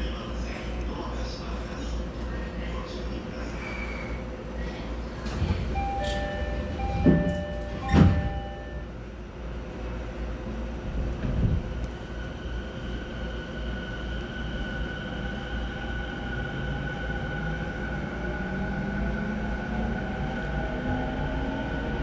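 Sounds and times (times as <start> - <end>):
electric train rumble: 0.0 - 22.0.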